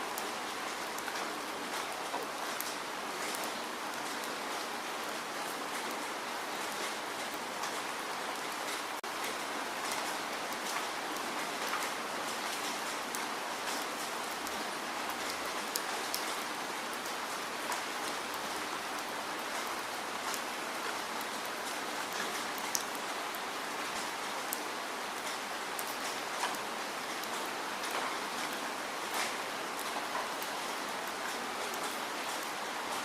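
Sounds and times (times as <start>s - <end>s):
steady falling rain: 0.0s - 33.0s
raindrops ticking on a surface: 0.1s - 33.0s.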